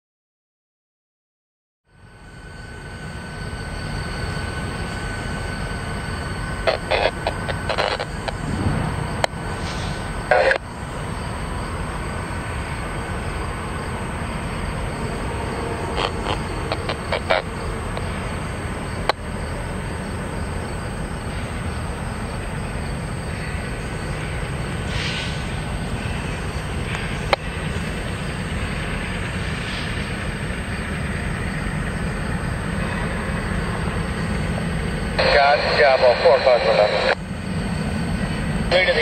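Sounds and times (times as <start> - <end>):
distant diesel locomotives rumbling: 1.9 - 39.0.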